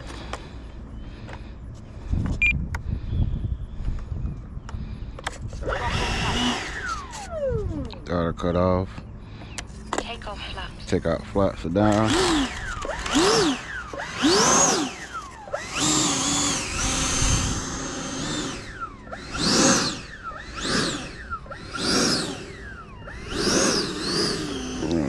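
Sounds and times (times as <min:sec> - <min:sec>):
electric ducted fan whine: 0:00.0 - 0:09.4, 0:10.2 - 0:25.0.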